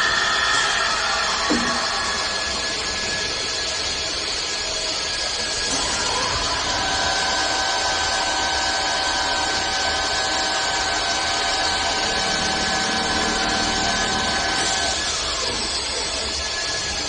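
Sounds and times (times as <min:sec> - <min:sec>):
wood lathe cutting wood: 0:00.0 - 0:04.2, 0:04.8 - 0:17.0
high motor whine: 0:00.0 - 0:17.0.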